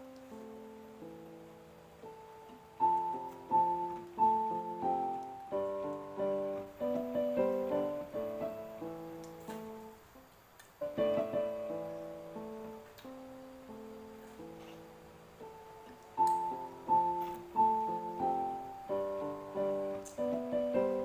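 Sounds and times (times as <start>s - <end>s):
piano music: 0.0s - 10.2s, 10.8s - 21.0s.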